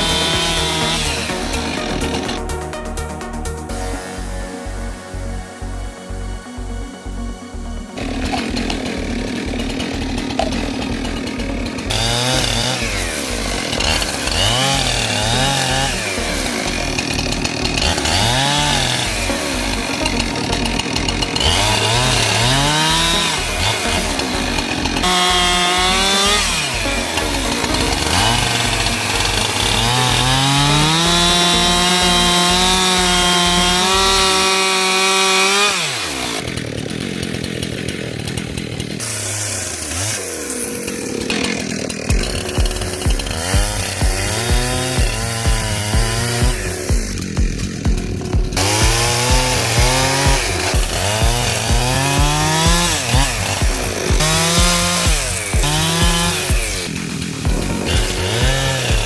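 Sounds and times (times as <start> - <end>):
chainsaw cutting logs: 0.0 - 59.0.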